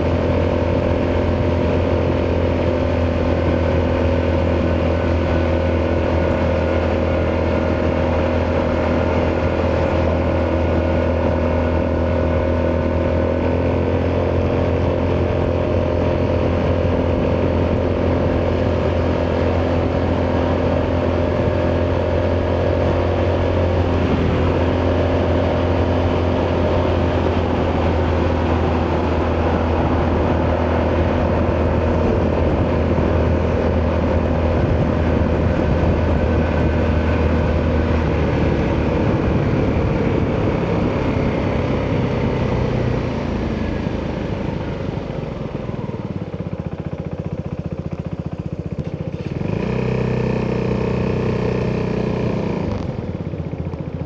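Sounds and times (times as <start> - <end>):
scooter engine running: 0.0 - 54.0.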